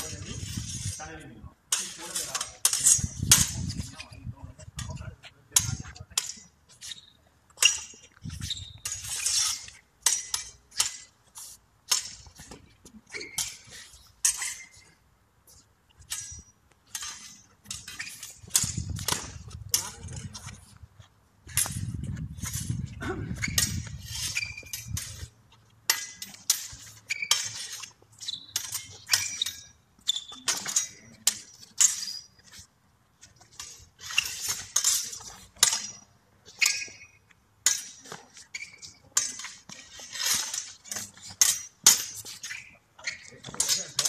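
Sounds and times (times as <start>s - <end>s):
steel sabres clashing: 1.7s - 4.2s, 4.8s - 15.0s, 15.9s - 20.6s, 21.5s - 44.0s.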